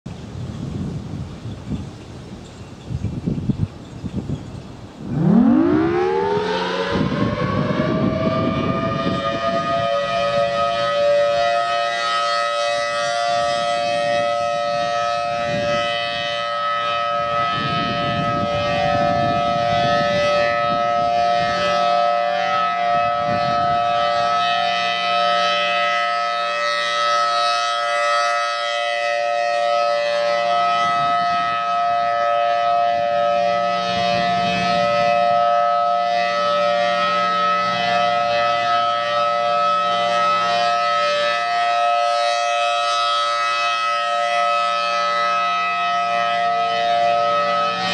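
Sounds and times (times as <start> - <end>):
outdoor warning siren wailing: 0.1 - 47.9.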